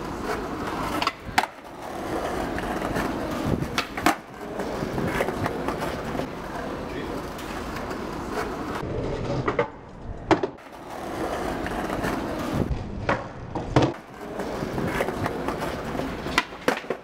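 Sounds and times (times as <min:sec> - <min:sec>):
skateboard clacking on ground: 0:00.0 - 0:17.0
skateboard wheels rolling on paving: 0:00.0 - 0:17.0.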